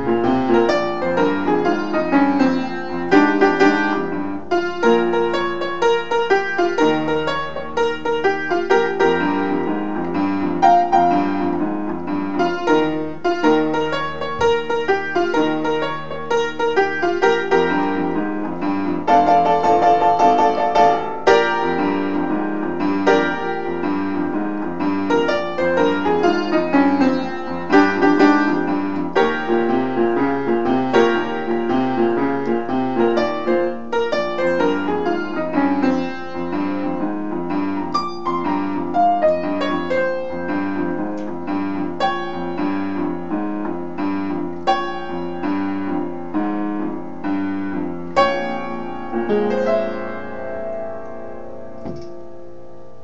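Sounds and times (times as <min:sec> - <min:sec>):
bluesy piano playing: 0:00.0 - 0:53.0.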